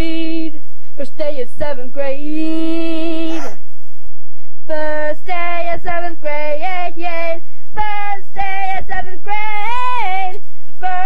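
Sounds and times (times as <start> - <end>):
girl singing unaccompanied: 0.0 - 3.6, 4.6 - 11.0.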